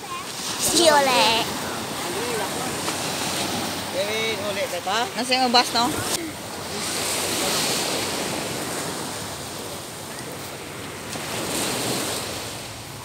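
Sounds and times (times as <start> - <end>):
waves breaking on sand beach: 0.0 - 13.0.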